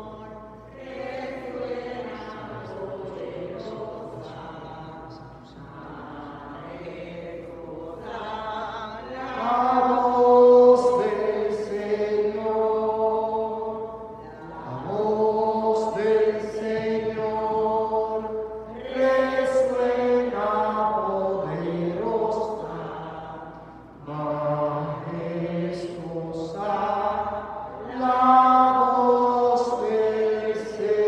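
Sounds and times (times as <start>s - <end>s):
slow chanted singing: 0.0s - 31.0s.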